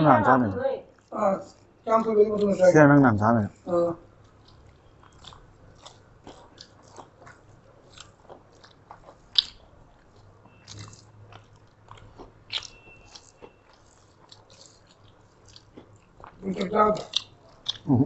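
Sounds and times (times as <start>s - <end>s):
people chewing and lip smacking: 0.4s - 18.0s.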